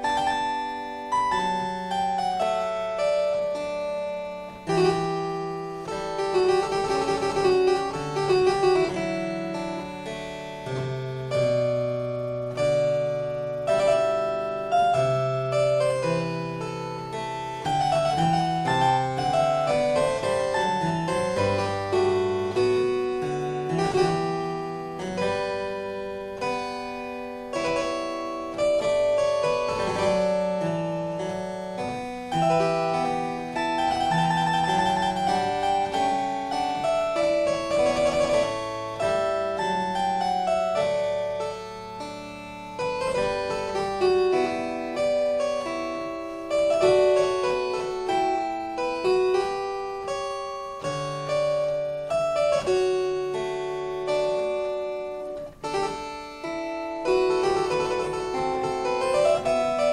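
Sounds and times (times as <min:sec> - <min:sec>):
keyboard chords: 0:00.0 - 0:59.9.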